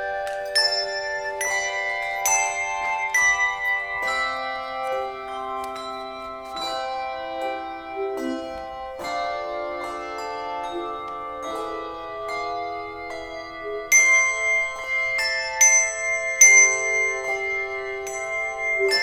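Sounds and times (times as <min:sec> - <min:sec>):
bell-like instrumental music: 0:00.0 - 0:19.0.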